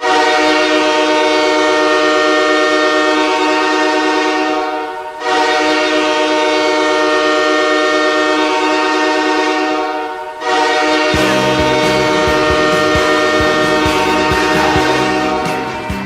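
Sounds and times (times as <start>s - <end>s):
ice hockey goal horn: 0.0s - 16.0s.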